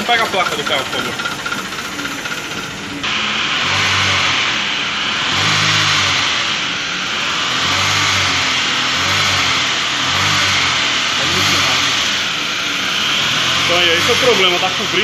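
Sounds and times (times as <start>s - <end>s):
misfiring car engine: 0.0s - 15.0s.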